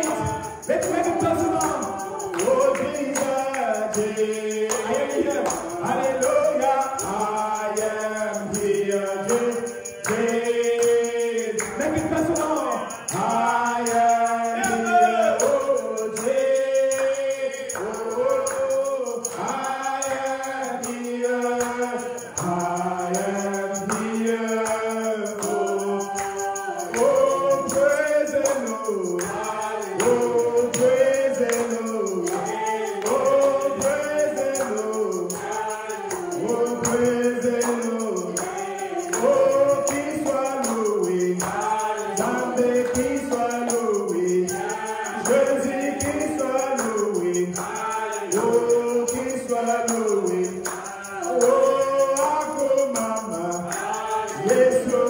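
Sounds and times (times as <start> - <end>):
group singing gospel song: 0.0 - 55.0
tambourine shaken in rhythm: 0.0 - 55.0.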